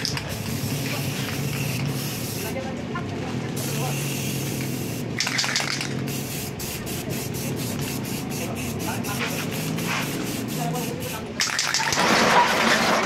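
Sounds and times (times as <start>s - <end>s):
aerosol spray can hissing: 0.0s - 2.6s, 3.6s - 11.8s.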